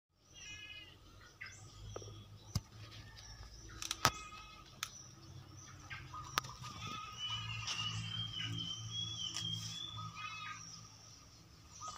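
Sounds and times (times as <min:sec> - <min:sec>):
birds chirping: 0:00.1 - 0:11.9.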